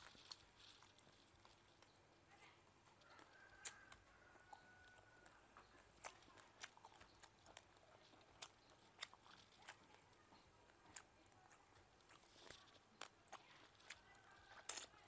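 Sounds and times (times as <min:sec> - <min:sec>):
faint chewing and biting: 0:00.0 - 0:15.0.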